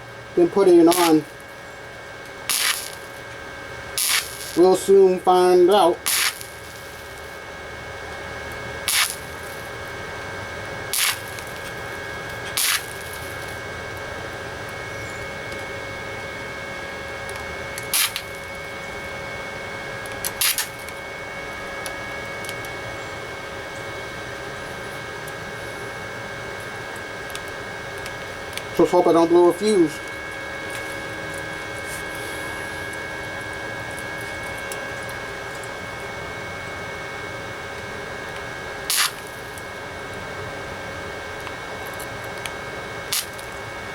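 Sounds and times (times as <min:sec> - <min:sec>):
welding arc crackle: 0:00.0 - 0:15.8, 0:16.5 - 0:22.8, 0:26.6 - 0:36.1, 0:37.7 - 0:40.4, 0:41.0 - 0:43.9
electrical hum: 0:00.0 - 0:43.9.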